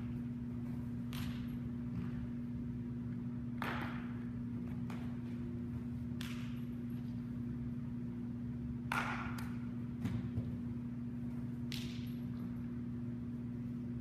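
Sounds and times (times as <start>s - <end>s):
low building hum: 0.0s - 14.0s.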